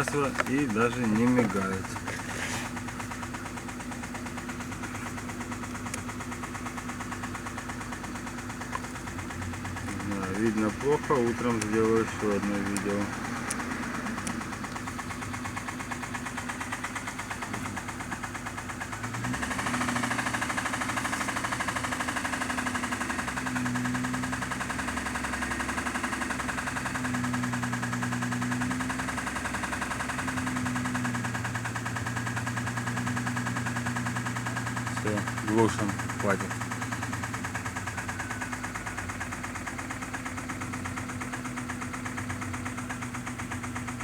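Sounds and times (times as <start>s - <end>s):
car engine idling with knock: 0.0s - 44.0s.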